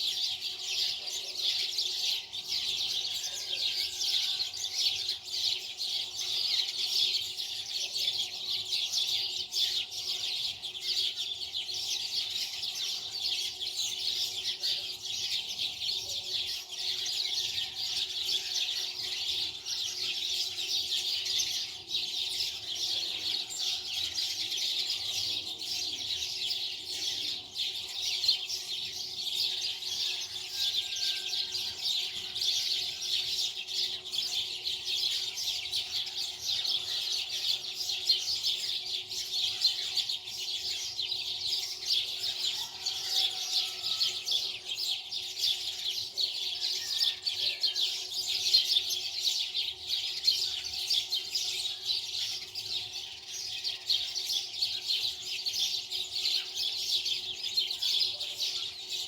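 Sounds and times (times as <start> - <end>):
small birds chirping chorus: 0.0 - 59.0.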